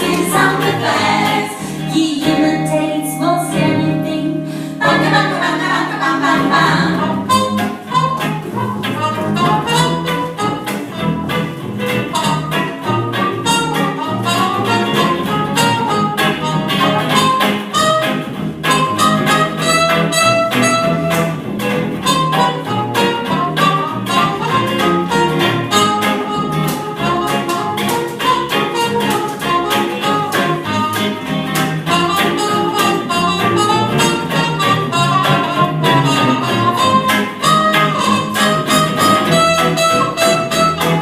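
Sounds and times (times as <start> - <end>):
jazz music with strings and bass: 0.0 - 41.0.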